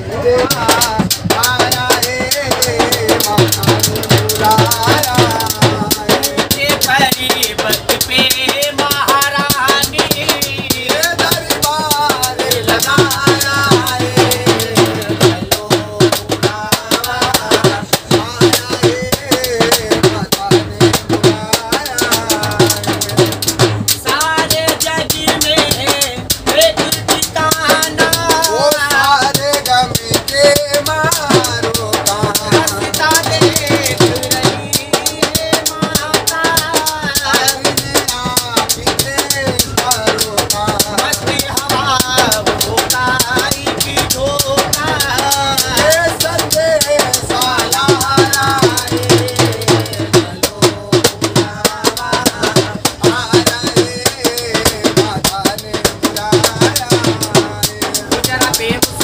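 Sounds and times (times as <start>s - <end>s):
fast hand drum beat: 0.0s - 59.0s
man singing: 0.0s - 59.0s
rattling percussion: 0.0s - 59.0s.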